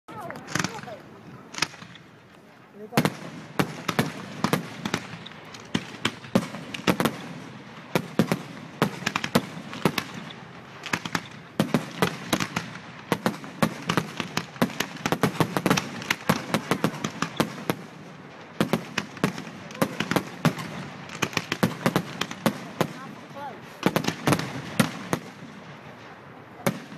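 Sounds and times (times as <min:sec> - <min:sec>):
fireworks banging and crackling: 0:00.1 - 0:26.9.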